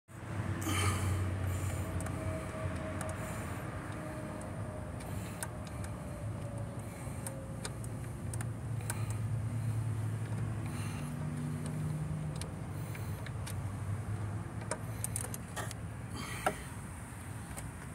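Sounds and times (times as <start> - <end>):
engine low hum: 0.1 - 17.9.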